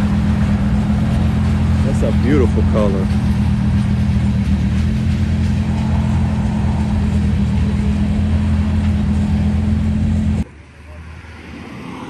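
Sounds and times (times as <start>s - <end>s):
car engine idling: 0.0s - 11.1s.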